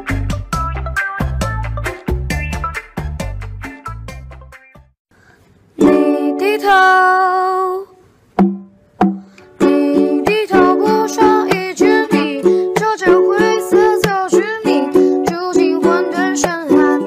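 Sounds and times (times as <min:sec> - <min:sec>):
ukulele music: 0:00.0 - 0:04.1, 0:05.8 - 0:07.6, 0:08.4 - 0:17.0.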